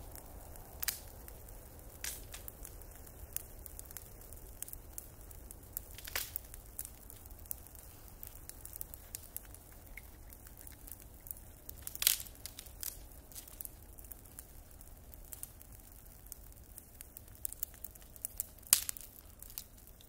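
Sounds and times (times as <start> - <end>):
bonfire crackling: 0.0 - 20.0
fire popping: 0.0 - 20.0.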